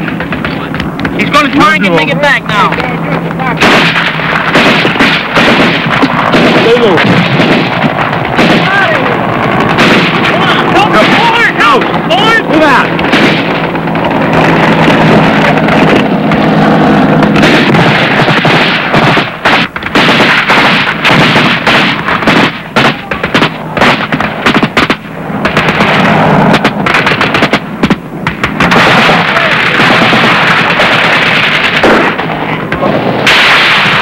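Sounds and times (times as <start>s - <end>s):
automatic gunfire: 0.0s - 34.0s.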